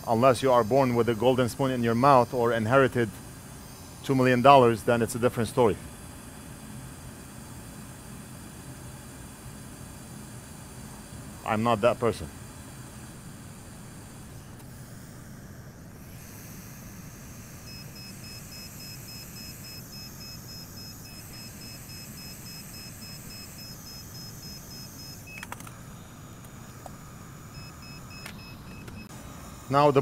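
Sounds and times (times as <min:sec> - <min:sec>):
low hum of equipment: 0:00.0 - 0:30.0.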